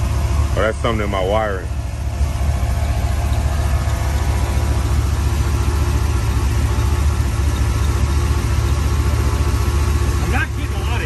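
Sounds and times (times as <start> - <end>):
electric radiator fan running: 0.0 - 11.0
truck engine idling: 0.0 - 11.0.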